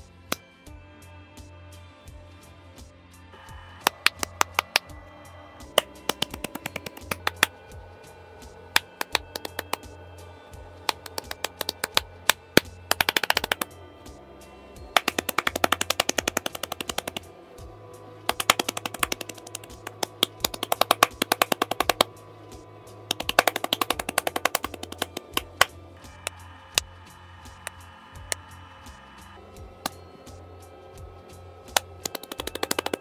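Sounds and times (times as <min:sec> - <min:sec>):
hand claps: 0:03.4 - 0:14.2, 0:14.8 - 0:17.3, 0:18.2 - 0:33.0.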